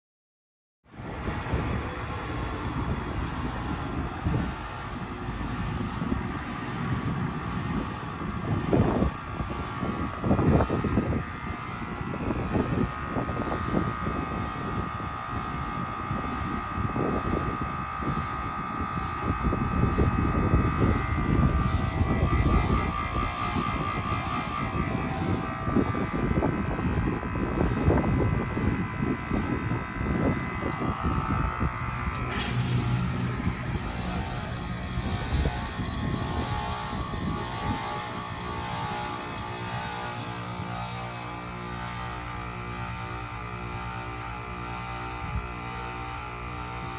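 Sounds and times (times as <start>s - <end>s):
heat pump whine: 0.9s - 46.9s
low hum: 0.9s - 46.9s.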